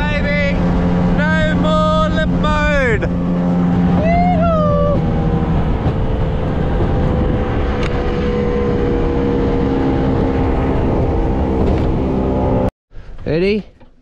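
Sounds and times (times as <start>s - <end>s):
outboard motor running: 0.0s - 12.4s
rush of wind and water: 0.0s - 12.7s.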